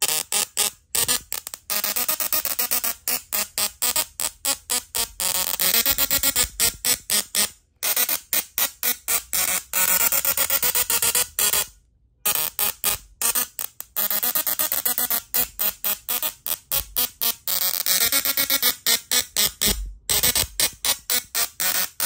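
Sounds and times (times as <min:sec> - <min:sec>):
tesla coil buzzing a tune: 0:00.0 - 0:22.0.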